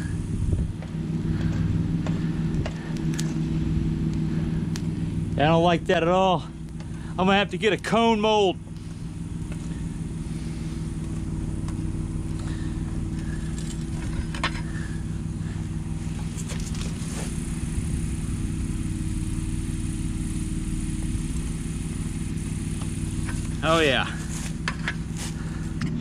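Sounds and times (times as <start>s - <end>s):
furnace burner drone: 0.0s - 26.0s.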